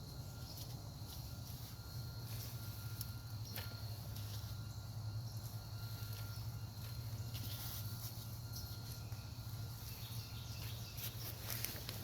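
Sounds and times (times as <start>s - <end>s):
low hum: 0.0s - 12.0s
soil and roots rustling: 0.0s - 12.0s.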